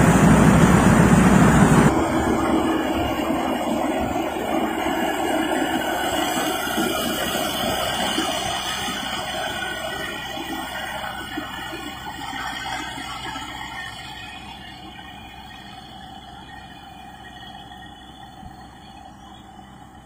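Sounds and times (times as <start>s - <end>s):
combine harvester running loudly: 0.0s - 20.0s.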